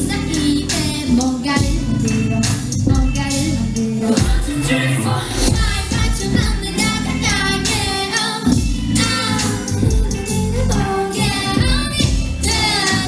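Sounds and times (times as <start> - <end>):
instrumental music with low beat: 0.0 - 13.0
woman singing pop song: 0.0 - 13.0.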